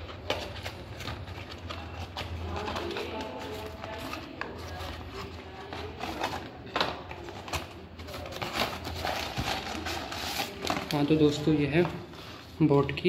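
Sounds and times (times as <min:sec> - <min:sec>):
parcel mailer crinkling and rustling: 0:00.0 - 0:11.9.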